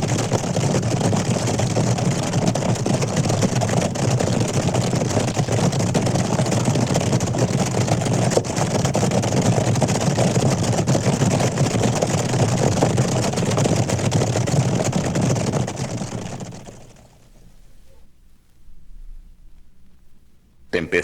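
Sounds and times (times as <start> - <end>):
running hooves rumbling: 0.0 - 17.2.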